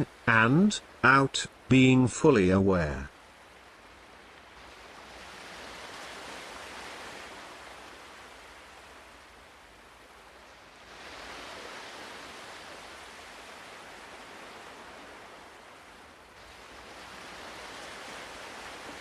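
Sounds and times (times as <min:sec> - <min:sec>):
ocean waves washing onto shore: 0:00.0 - 0:19.0.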